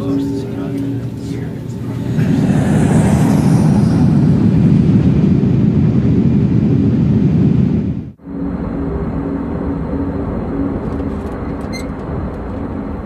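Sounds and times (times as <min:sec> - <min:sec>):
airliner diving roar: 0:00.0 - 0:13.0
steady quieter hum: 0:00.0 - 0:13.0.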